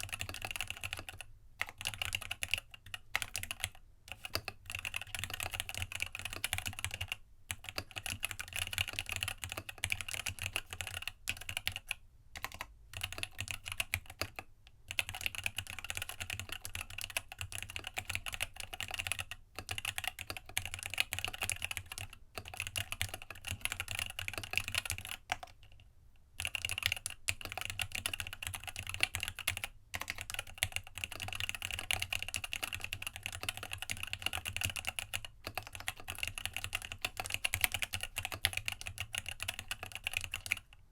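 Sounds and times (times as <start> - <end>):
fast typing on mechanical keyboard: 0.0 - 25.6, 26.4 - 40.7.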